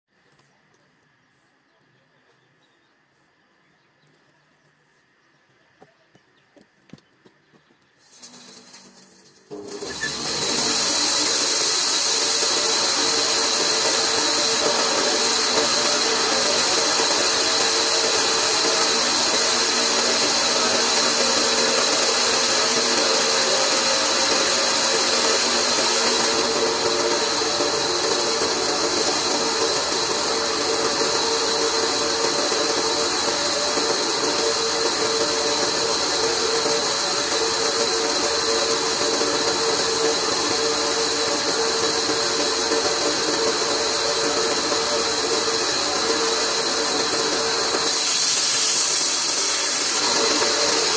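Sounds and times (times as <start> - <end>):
bandsaw running: 8.1 - 50.9.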